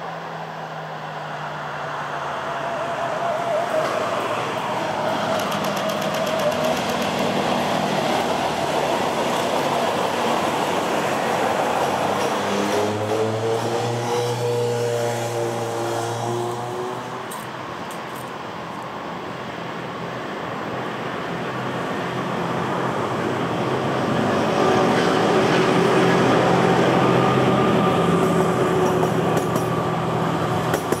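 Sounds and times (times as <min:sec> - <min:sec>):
train rolling past: 0:01.5 - 0:18.9, 0:21.1 - 0:31.0.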